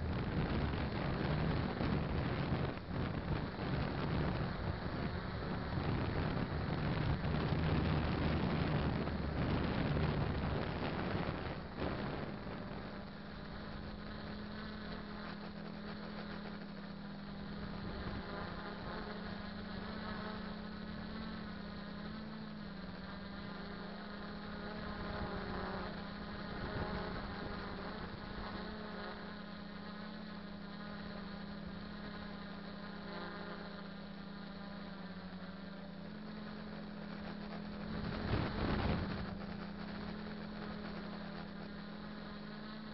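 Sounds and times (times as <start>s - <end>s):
drone motors buzzing: 0.0s - 42.9s
motor whine wavering in pitch: 0.0s - 42.9s
steady low hum: 0.0s - 42.9s.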